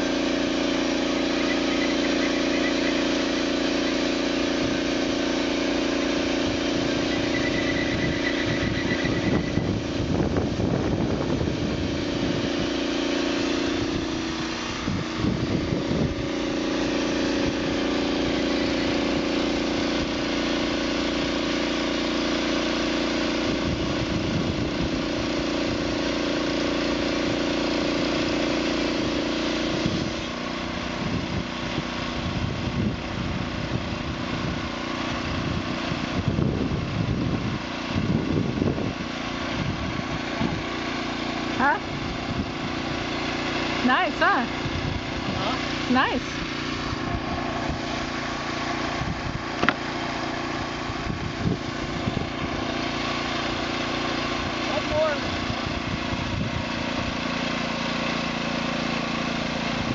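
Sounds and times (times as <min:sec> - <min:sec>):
band saw cutting log: 0:00.0 - 0:59.9
small engine running: 0:00.0 - 0:59.9.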